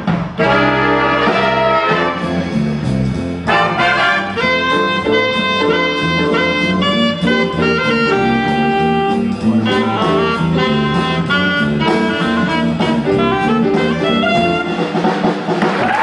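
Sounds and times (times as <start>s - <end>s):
jazz big band playing swing: 0.0s - 16.0s
alto saxophone: 0.4s - 2.6s, 3.5s - 15.1s.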